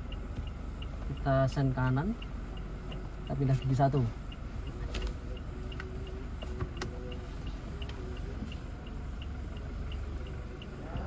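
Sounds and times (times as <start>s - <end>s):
car engine idling: 0.0s - 11.0s
turn signal ticking: 0.0s - 11.0s.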